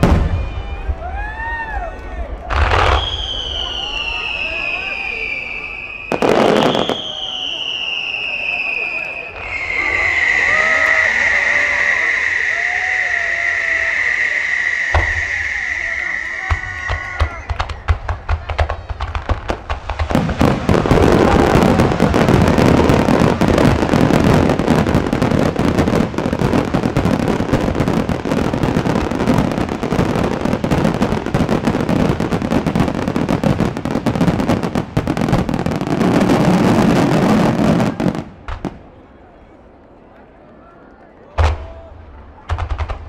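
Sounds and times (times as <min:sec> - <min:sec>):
fireworks launching and bursting: 0:00.0 - 0:01.2, 0:02.4 - 0:38.9, 0:41.4 - 0:43.0.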